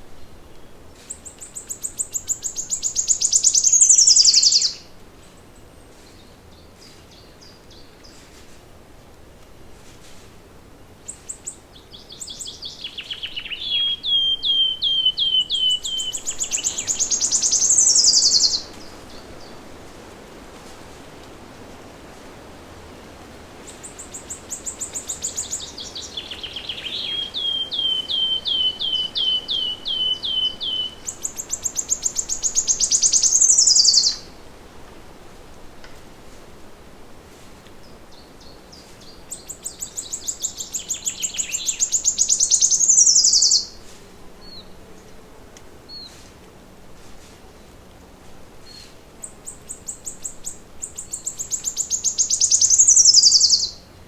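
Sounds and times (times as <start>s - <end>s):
songbird singing chirps and trill: 0.0s - 8.4s, 10.8s - 20.5s, 22.9s - 35.0s, 37.6s - 45.2s, 47.6s - 54.0s.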